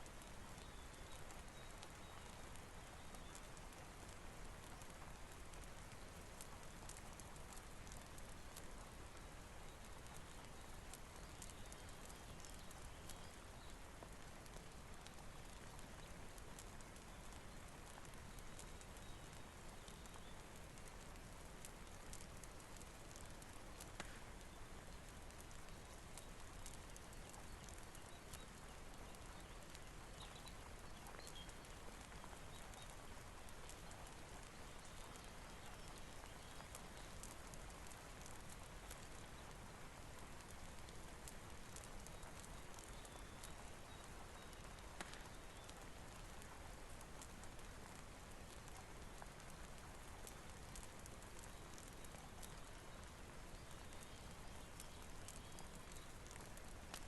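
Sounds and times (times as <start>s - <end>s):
faint rain hiss: 0.0s - 57.0s
wood fire crackling: 0.0s - 57.0s.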